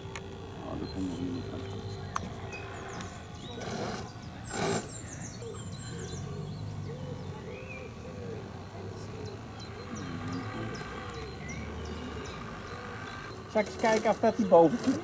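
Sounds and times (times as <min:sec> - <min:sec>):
small birds chirping: 0:00.0 - 0:15.0
low bird call: 0:00.4 - 0:15.0.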